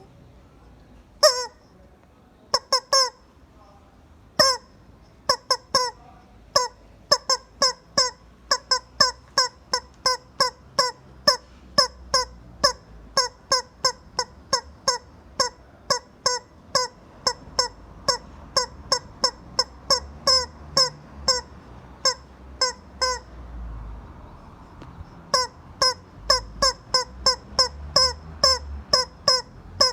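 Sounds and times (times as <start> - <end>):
rubber chicken squeaking: 1.2 - 1.8, 2.5 - 3.3, 4.4 - 23.4, 24.2 - 29.9.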